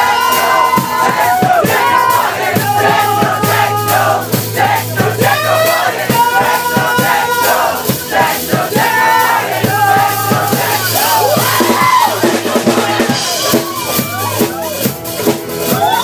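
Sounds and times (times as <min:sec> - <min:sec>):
crowd singing along: 0:00.0 - 0:14.3
live band playing: 0:00.0 - 0:16.0.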